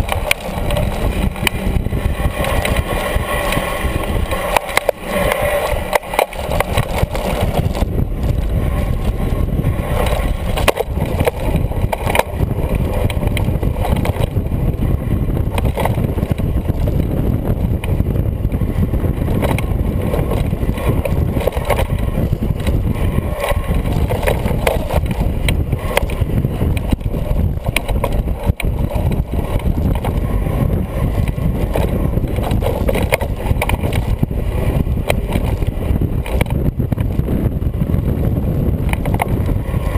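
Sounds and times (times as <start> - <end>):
bike knocks and rattles: 0.0 - 39.9
wind buffeting microphone: 0.0 - 39.9.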